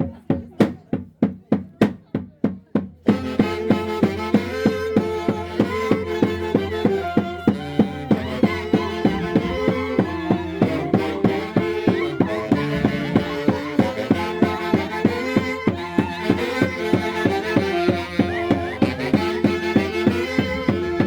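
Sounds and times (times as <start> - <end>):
driving drumbeat: 0.0 - 21.0
fiddle melody: 3.1 - 21.0.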